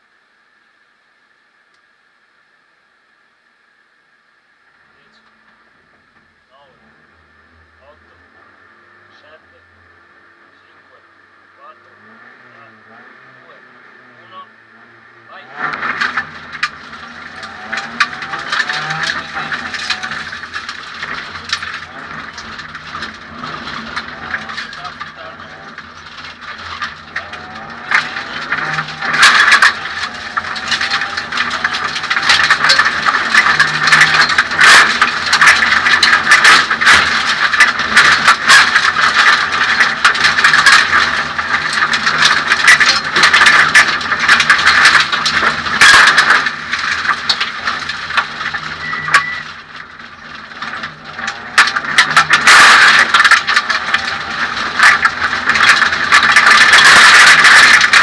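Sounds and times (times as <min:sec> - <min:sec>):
car engine revving: 0:04.7 - 0:58.0.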